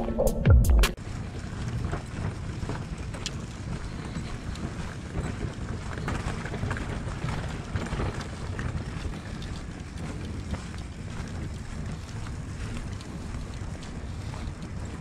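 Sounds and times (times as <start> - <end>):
faint footsteps on pavement: 1.0 - 15.0
wind buffeting microphone: 1.0 - 15.0.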